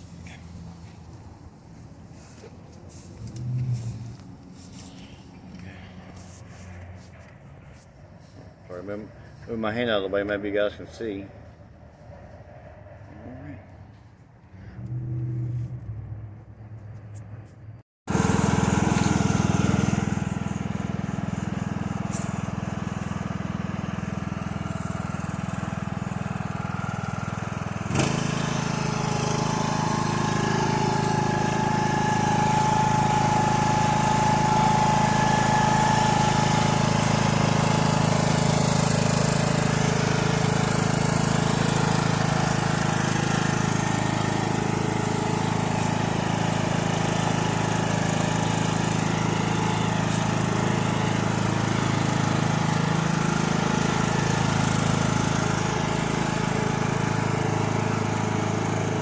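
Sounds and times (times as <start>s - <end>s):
riding mower engine running: 0.0s - 16.8s, 18.1s - 59.0s
engine running: 0.0s - 59.0s.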